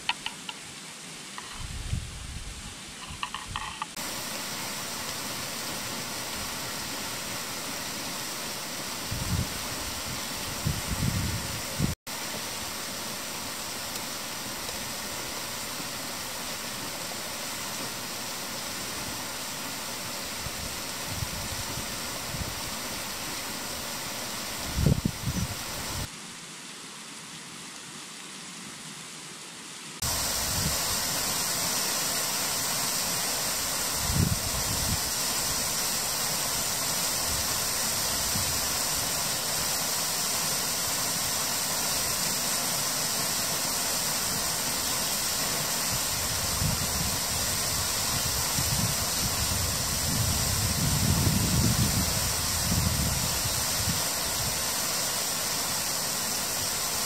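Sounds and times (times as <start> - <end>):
water rushing in cascade: 0.0 - 57.0.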